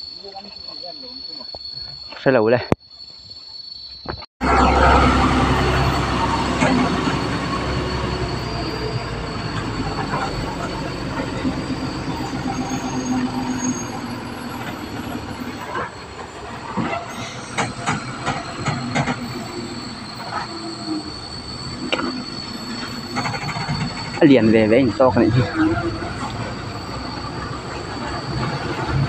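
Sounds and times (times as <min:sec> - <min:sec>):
diesel truck engine running: 0:04.4 - 0:29.0.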